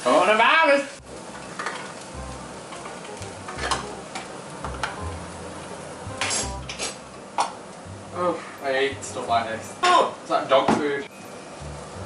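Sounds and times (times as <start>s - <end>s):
mince sizzling in a pan: 0.0s - 12.0s.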